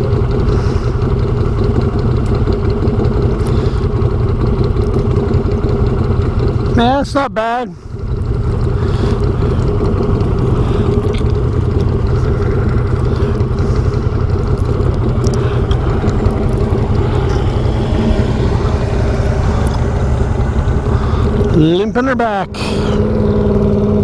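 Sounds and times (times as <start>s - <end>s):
atv engine running: 0.0s - 24.0s
faint clicks and rattles: 1.0s - 7.1s, 7.9s - 22.1s.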